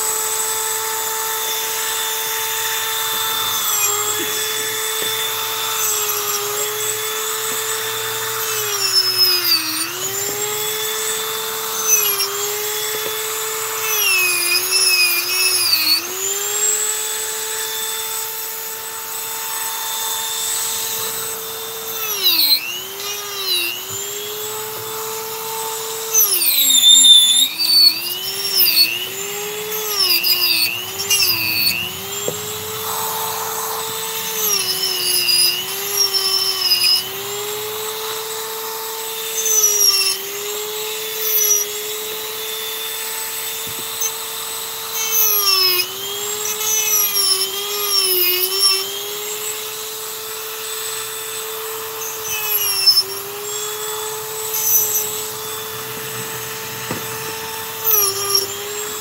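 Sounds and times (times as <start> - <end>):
rotary tool carving wood: 0.0 - 59.0.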